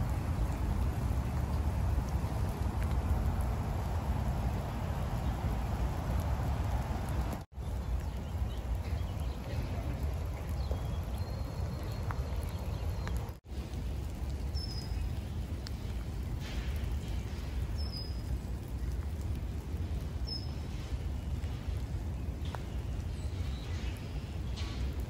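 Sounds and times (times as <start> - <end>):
light rain hissing: 0.0 - 25.0.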